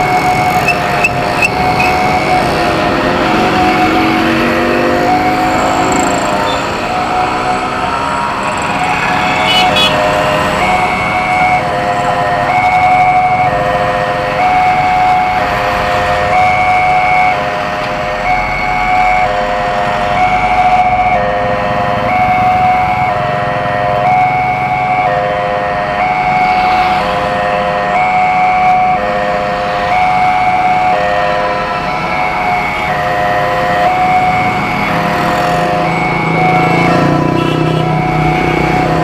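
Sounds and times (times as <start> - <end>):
passing street traffic: 0.0 - 39.0
two-tone crossing alarm: 0.0 - 39.0.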